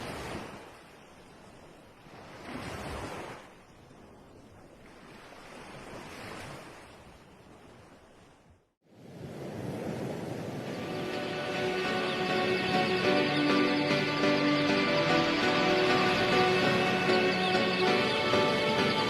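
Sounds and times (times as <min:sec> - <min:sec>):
sea waves washing in: 0:00.0 - 0:03.6, 0:04.5 - 0:19.0.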